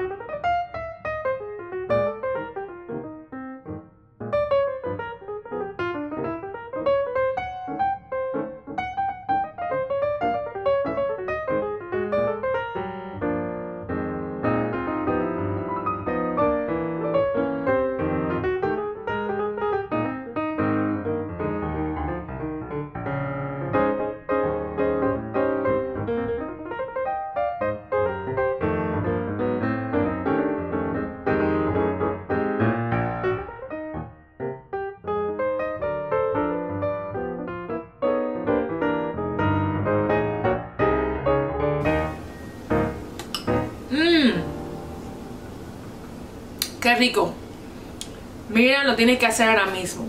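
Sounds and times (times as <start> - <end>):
piano music: 0.0 - 50.0.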